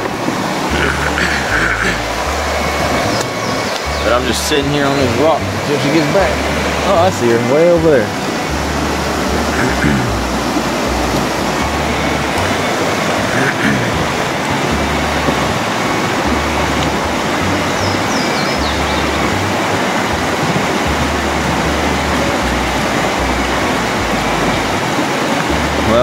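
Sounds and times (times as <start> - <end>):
water rushing over rocks: 0.0 - 26.0
microphone rumbles: 0.7 - 24.8.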